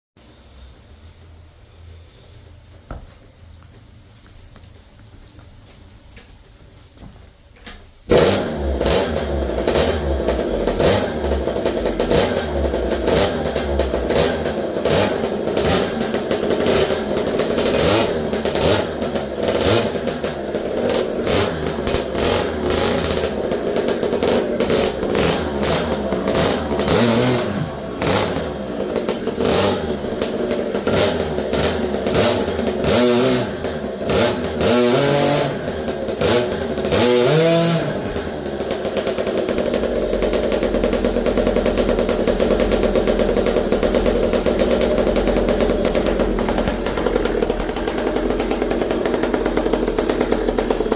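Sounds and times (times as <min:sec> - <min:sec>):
rattly two-stroke engine revving: 0:08.1 - 0:50.9.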